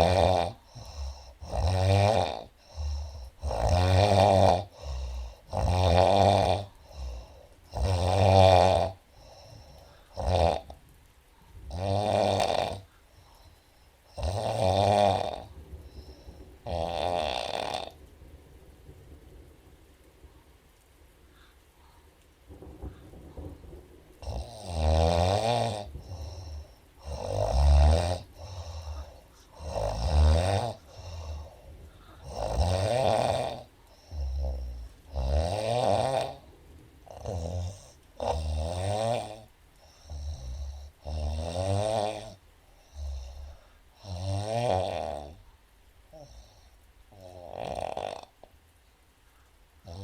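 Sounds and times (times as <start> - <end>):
woman snoring: 0.0 - 10.8, 11.7 - 18.1, 24.2 - 36.5, 37.1 - 45.5, 46.1 - 48.5.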